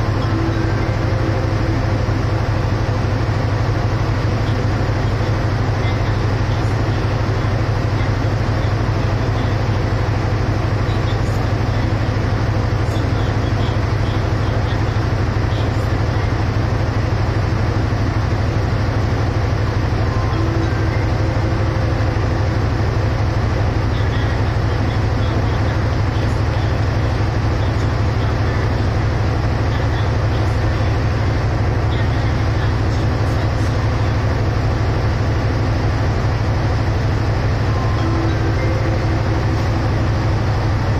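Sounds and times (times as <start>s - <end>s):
diesel train idling: 0.0s - 40.9s.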